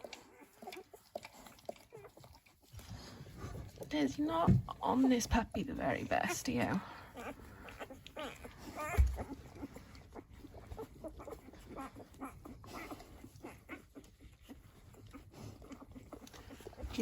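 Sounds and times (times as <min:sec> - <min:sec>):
puppies squeaking and whimpering: 0:00.0 - 0:17.0.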